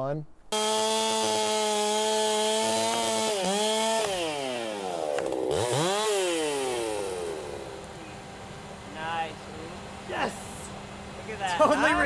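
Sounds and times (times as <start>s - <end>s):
chainsaw engine revving: 0.5s - 11.2s.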